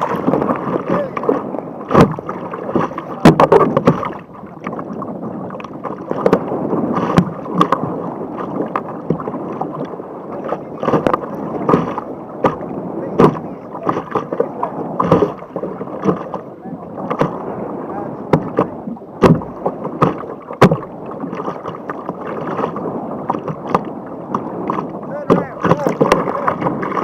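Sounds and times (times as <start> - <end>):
sea water rushing and splashing: 0.0 - 27.0
water slapping against boat: 0.0 - 27.0.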